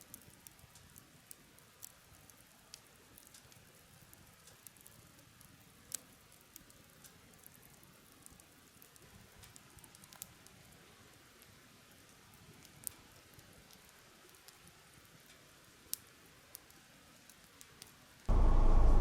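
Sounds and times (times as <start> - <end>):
campfire crackling and popping: 0.0 - 18.3.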